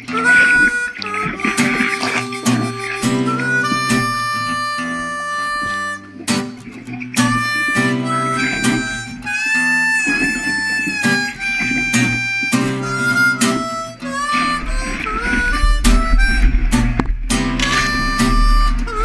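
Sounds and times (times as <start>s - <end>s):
melody of bending notes: 0.0s - 19.0s
strummed chords: 0.0s - 19.0s.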